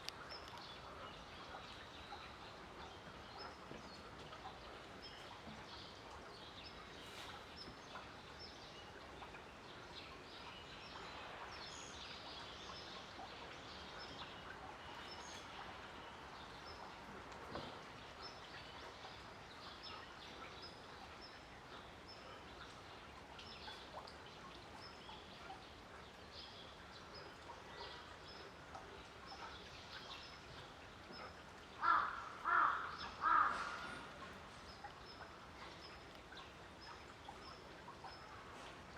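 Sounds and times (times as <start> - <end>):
faint background noise: 0.0 - 38.9.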